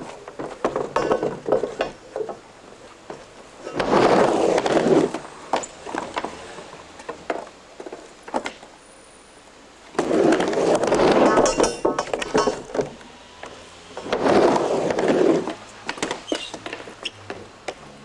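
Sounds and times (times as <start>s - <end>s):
skateboard wheels rolling: 0.0s - 8.8s, 9.8s - 18.0s.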